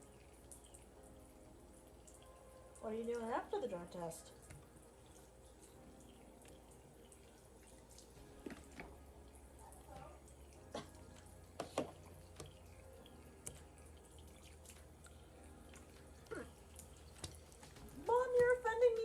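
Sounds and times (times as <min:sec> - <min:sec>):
water dripping into sink: 0:00.0 - 0:19.0.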